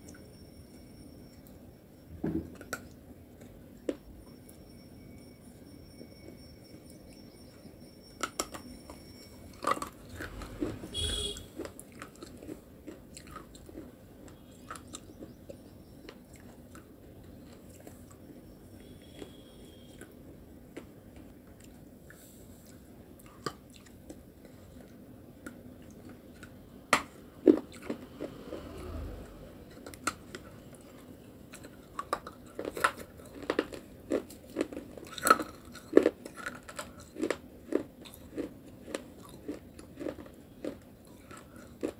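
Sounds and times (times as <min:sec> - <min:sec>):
crunchy chewing of clay: 0:06.9 - 0:41.9.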